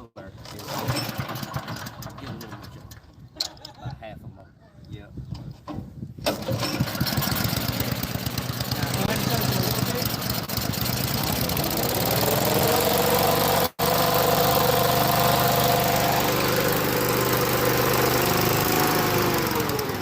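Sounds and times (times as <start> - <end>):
fan engine running: 0.5 - 3.0, 6.3 - 20.0.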